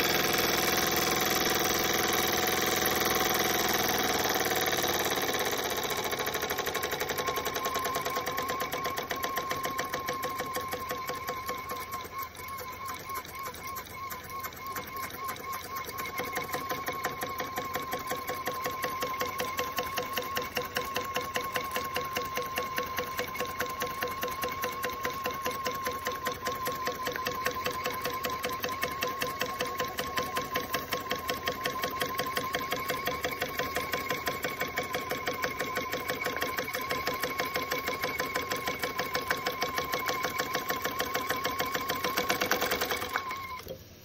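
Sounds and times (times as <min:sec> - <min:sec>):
toy steam engine ticking: 0:00.0 - 0:44.0.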